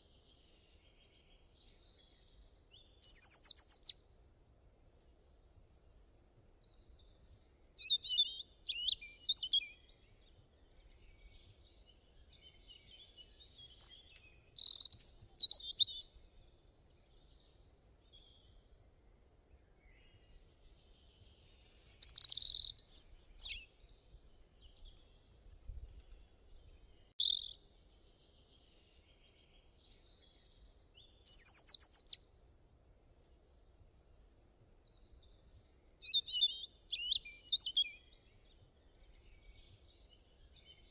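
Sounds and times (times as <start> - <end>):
songbirds singing and chirping: 0.0 - 4.2, 6.2 - 32.5, 33.2 - 40.9.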